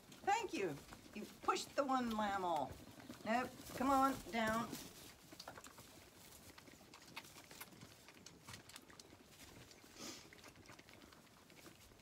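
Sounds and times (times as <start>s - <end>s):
lambs rustling in straw: 0.0s - 12.0s.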